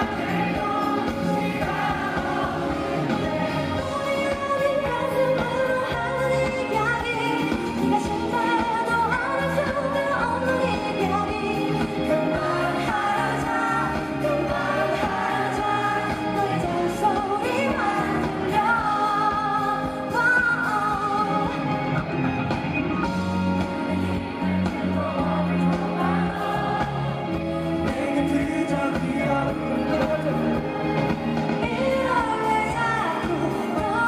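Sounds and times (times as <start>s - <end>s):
live pop song through sound system: 0.0s - 34.0s.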